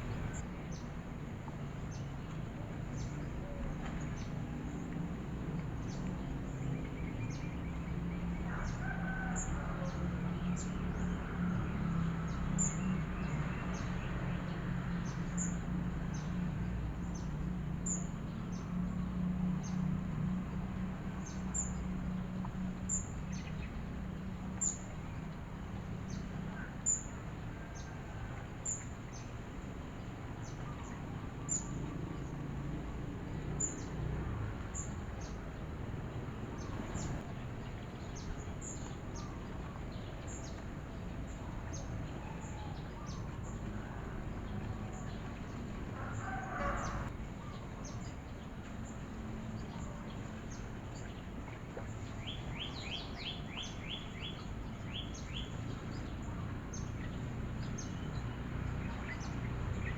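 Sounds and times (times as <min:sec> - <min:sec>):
low steady rumble: 0:00.0 - 0:08.8, 0:14.2 - 0:59.9.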